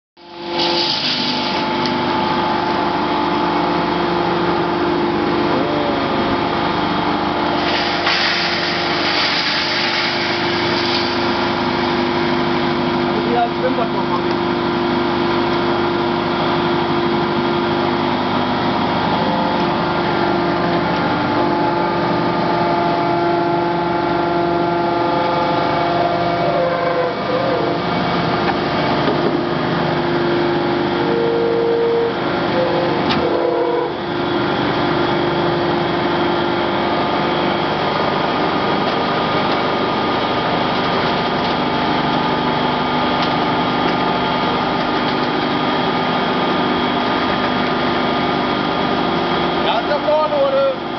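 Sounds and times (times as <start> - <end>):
hydraulic machine humming: 0.2 - 50.9.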